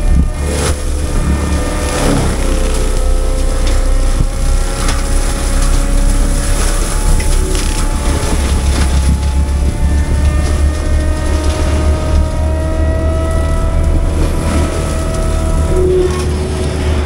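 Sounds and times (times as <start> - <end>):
heavy diesel engine rumbling: 0.0 - 17.0
rising engine whine: 0.0 - 17.0.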